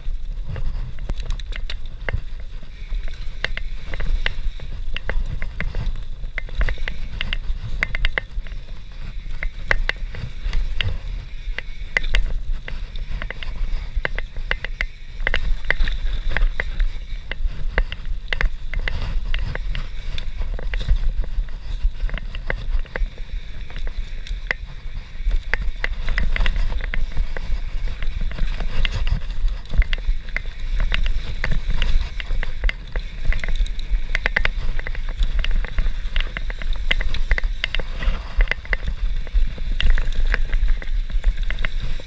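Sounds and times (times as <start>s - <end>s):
bike clicking and rattling: 0.0s - 42.0s
tyre and wind rumble: 0.0s - 42.0s.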